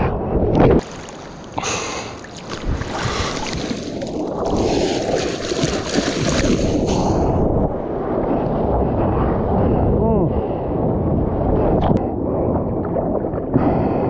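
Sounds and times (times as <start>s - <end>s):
water splashing and rushing: 0.5s - 9.9s, 10.7s - 14.0s.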